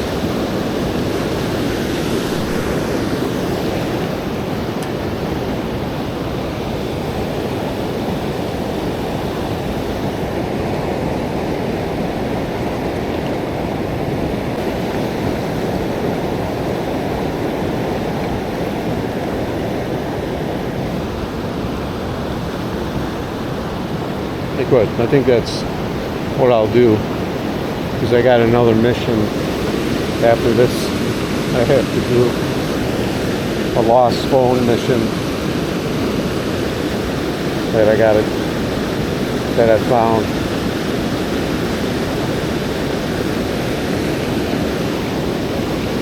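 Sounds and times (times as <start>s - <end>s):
river water pouring over a dam: 0.0s - 46.0s.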